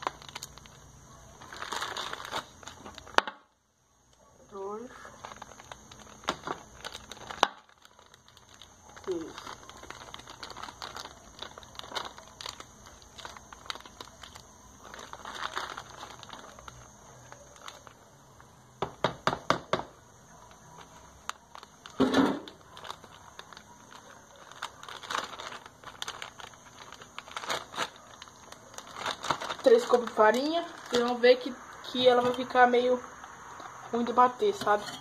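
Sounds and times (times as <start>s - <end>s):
plastic bag crinkling: 0.0s - 3.3s, 4.5s - 18.1s, 20.3s - 35.0s.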